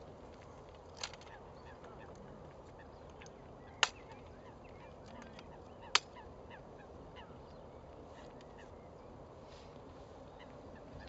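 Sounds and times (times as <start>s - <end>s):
faint bird calls: 1.2s - 11.0s.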